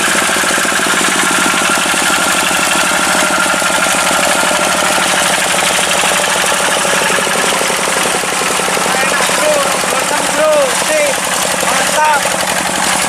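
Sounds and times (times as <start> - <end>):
tractor diesel engine knocking: 0.0 - 13.0.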